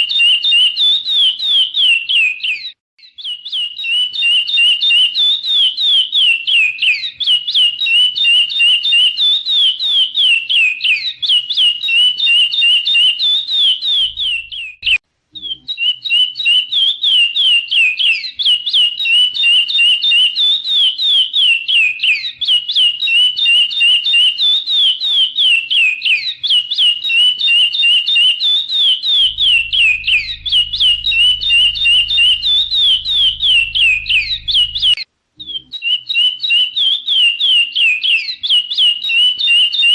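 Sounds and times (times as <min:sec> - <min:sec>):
finch singing whistled notes: 0:00.1 - 0:39.9.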